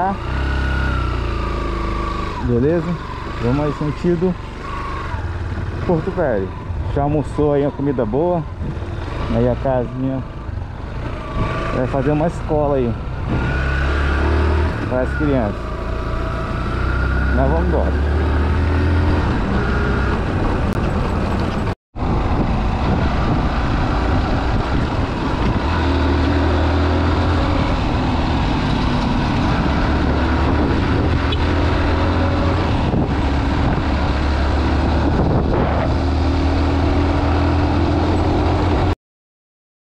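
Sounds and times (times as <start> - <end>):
vehicle engine and road noise drone: 0.0 - 39.0.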